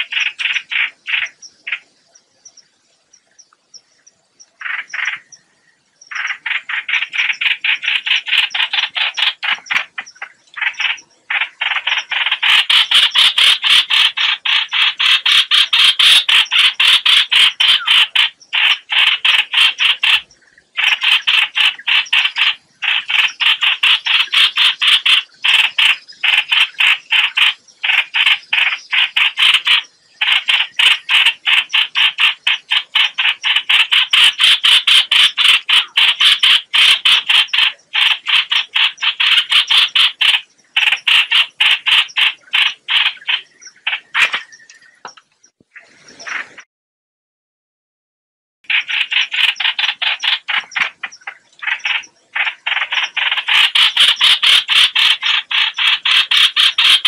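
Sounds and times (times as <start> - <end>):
bird harsh scolding calls: 0.0 - 2.0, 4.6 - 5.4, 6.1 - 46.6, 48.7 - 57.0.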